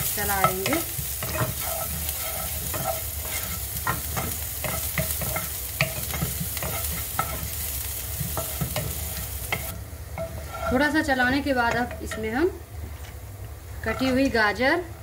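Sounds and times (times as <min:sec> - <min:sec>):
onion sizzling: 0:00.0 - 0:15.0
spatula scraping a pan: 0:00.3 - 0:12.3, 0:13.8 - 0:14.4.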